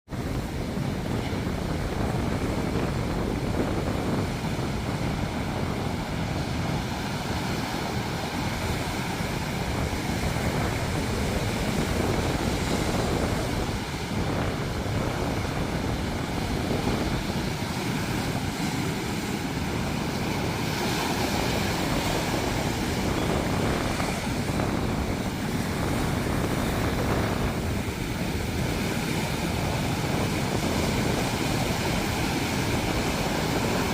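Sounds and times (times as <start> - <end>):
deep surf rumble: 0.0 - 33.9
waves breaking: 0.1 - 33.9.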